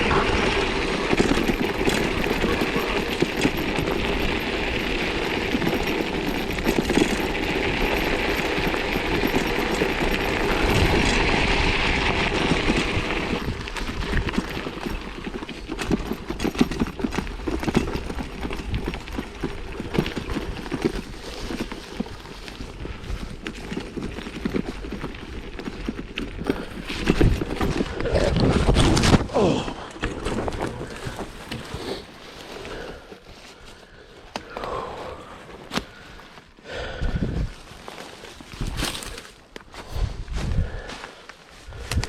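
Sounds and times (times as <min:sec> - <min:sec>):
bike crunches and rattles: 0:00.0 - 0:42.0
wind and tyre noise: 0:00.0 - 0:42.0.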